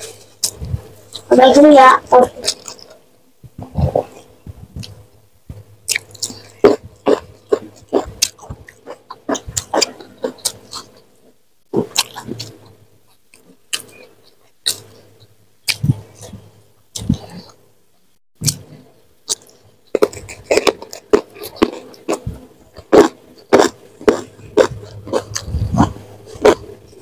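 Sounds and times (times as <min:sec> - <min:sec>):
person chewing crunchy food: 0:02.2 - 0:03.0, 0:03.6 - 0:17.6, 0:18.4 - 0:27.0.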